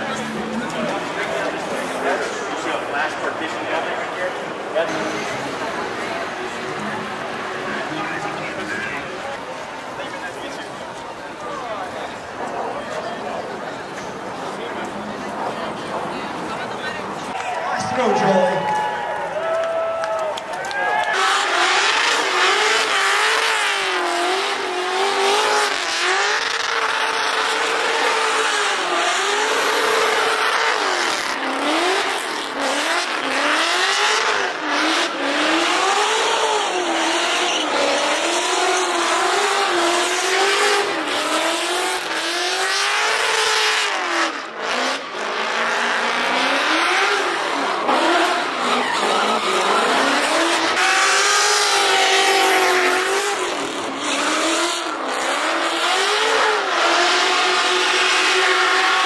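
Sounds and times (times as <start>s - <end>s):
car engine revving: 0.0s - 18.3s, 21.1s - 59.0s
tires squealing: 0.0s - 59.0s.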